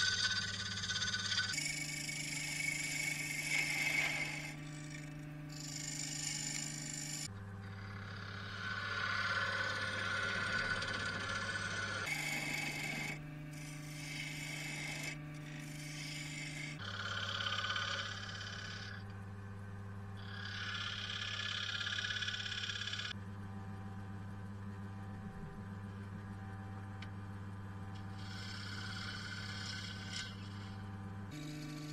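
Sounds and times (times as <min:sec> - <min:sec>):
turning tool cutting wood: 0:00.0 - 0:19.0, 0:20.2 - 0:23.1, 0:28.0 - 0:31.9
wood lathe motor hum: 0:00.0 - 0:19.2, 0:20.2 - 0:23.2, 0:27.9 - 0:31.9.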